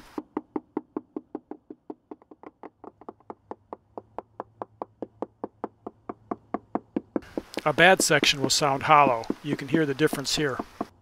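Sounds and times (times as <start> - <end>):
mallet tapping boat deck: 0.1 - 11.0.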